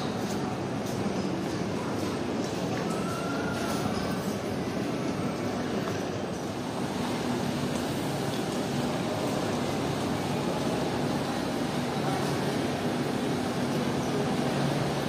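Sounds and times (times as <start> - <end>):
busy terminal hall rumble: 0.0 - 15.0
wheeled suitcases rolling on tiles: 0.0 - 15.0.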